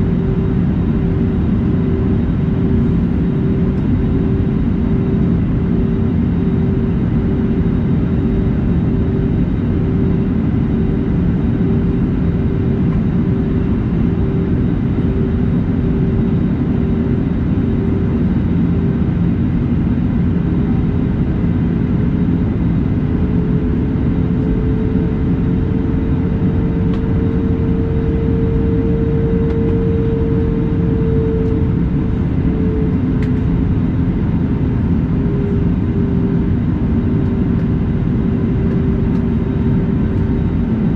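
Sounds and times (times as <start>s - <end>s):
airliner cabin drone: 0.0s - 40.9s.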